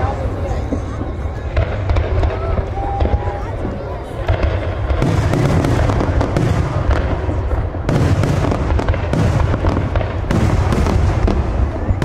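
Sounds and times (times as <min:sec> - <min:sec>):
fireworks booming: 0:00.0 - 0:12.0
fireworks crackle: 0:00.0 - 0:12.0.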